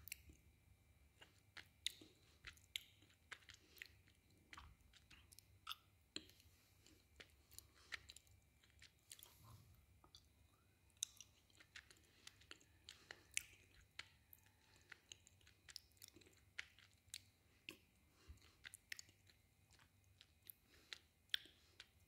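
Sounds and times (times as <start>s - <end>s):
chewing brittle crunches: 1.1s - 9.4s, 11.0s - 22.0s.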